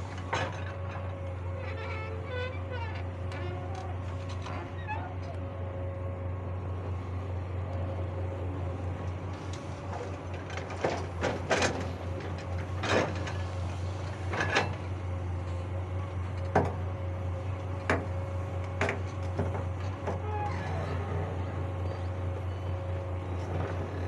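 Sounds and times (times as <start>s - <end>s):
excavator diesel engine humming: 0.0s - 24.0s.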